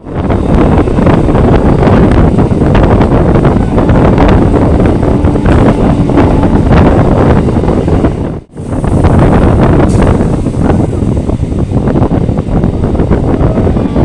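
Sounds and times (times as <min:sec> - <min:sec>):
train rumble and rattle: 0:00.0 - 0:14.0
wind buffeting microphone: 0:00.0 - 0:14.0.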